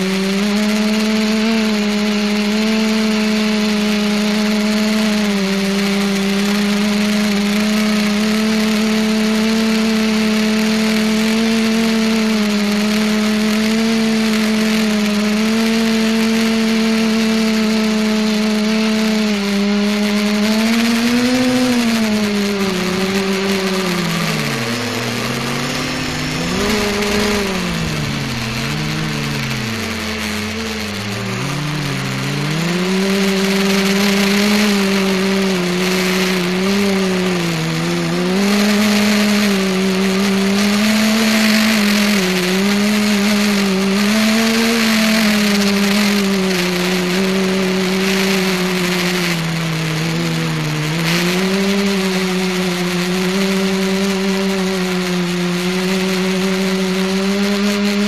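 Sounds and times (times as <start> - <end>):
drone motors and propellers humming: 0.0 - 58.0.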